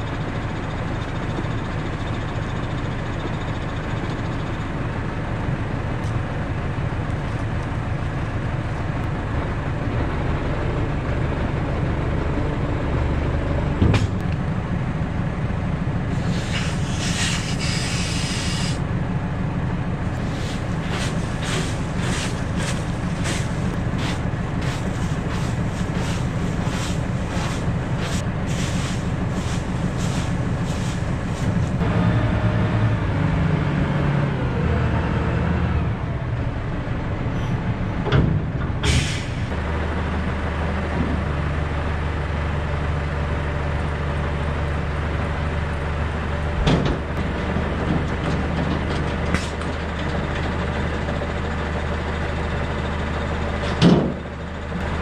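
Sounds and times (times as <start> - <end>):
tractor engine idling: 0.0 - 32.0, 35.9 - 55.0.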